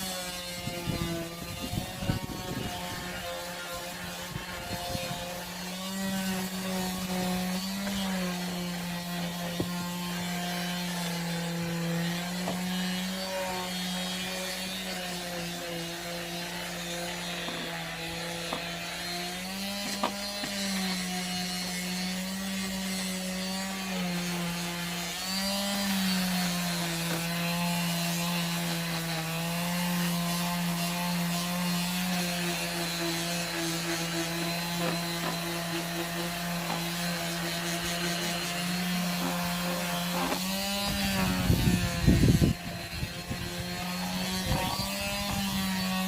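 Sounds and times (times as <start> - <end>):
disc sander grinding wood: 0.0 - 46.0.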